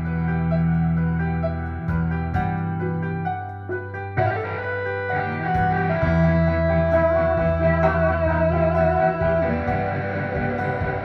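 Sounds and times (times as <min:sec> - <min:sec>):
bass line: 0:00.0 - 0:11.0
electronic keyboard melody: 0:00.0 - 0:11.0.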